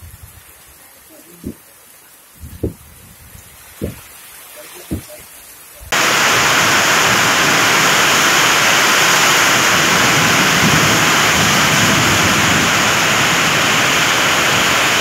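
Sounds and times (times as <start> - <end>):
heavy wind-driven rain: 0.0 - 15.0.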